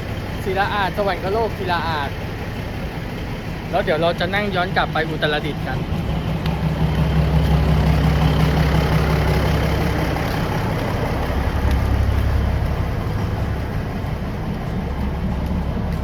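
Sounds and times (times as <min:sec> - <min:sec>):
diesel train engine idling: 0:00.0 - 0:16.0.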